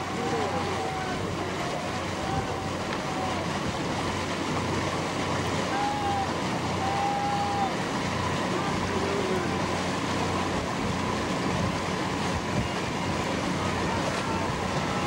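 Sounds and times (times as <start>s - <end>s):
boat engine humming: 0.0s - 15.0s
water rushing: 0.0s - 15.0s.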